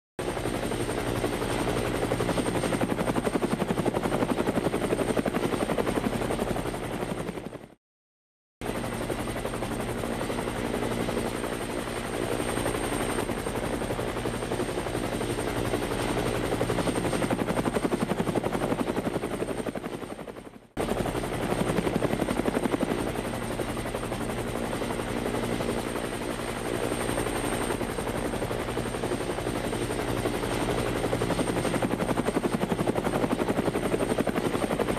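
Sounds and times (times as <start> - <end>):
helicopter rotor chopping: 0.2 - 7.7, 8.6 - 34.9
helicopter engine hum with whine: 0.2 - 7.8, 8.6 - 34.9.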